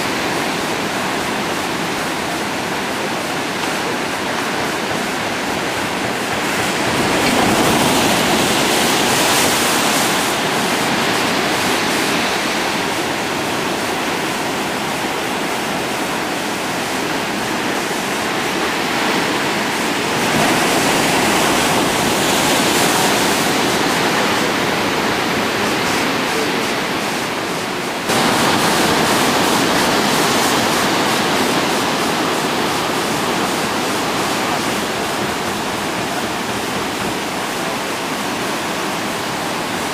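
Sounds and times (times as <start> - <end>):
surf breaking over rocks: 0.0 - 39.9.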